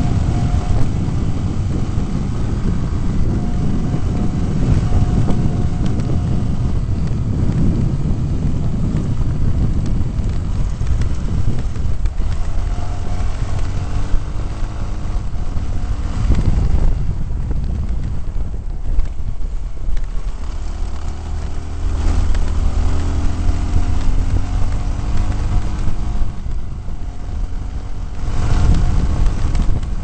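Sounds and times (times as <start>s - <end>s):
off-road vehicle engine rumble: 0.0s - 30.0s
wind buffeting microphone: 0.0s - 30.0s.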